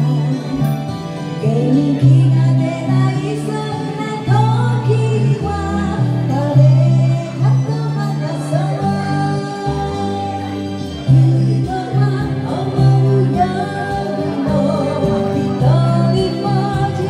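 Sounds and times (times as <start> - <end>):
karaoke backing track: 0.0 - 17.0
woman singing into a microphone: 0.0 - 17.0.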